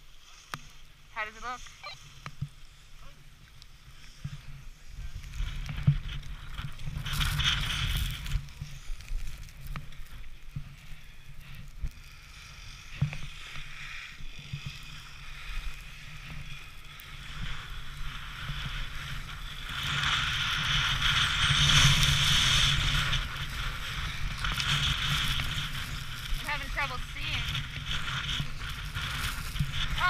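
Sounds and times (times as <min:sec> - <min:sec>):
skis scraping over snow: 0:00.0 - 0:30.0
wind rumbling on microphone: 0:00.0 - 0:30.0.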